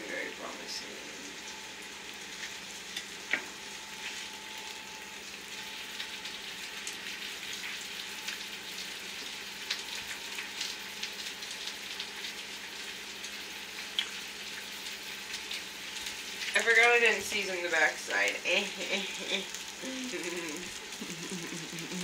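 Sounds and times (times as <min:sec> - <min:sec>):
steak sizzling in a frying pan: 0:00.0 - 0:22.0.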